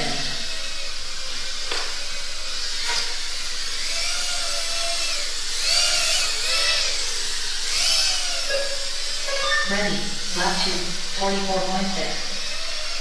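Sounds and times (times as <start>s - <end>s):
small drone motors whining: 0.0s - 13.0s.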